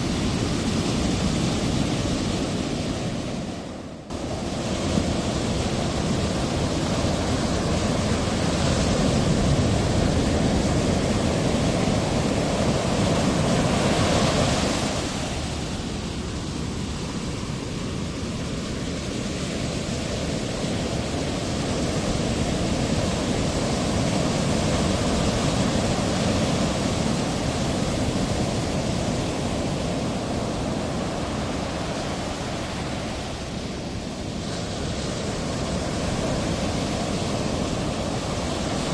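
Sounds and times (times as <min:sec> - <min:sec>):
ocean surf breaking waves: 0:00.0 - 0:38.9.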